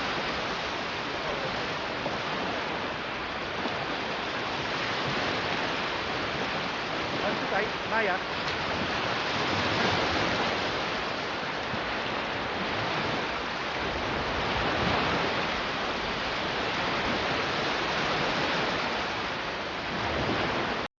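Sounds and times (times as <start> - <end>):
sea waves breaking on beach: 0.0 - 20.9.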